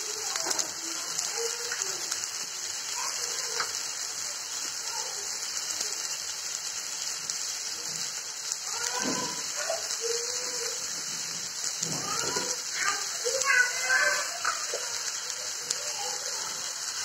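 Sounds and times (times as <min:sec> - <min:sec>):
hot oil sizzling in a wok: 0:00.0 - 0:17.0.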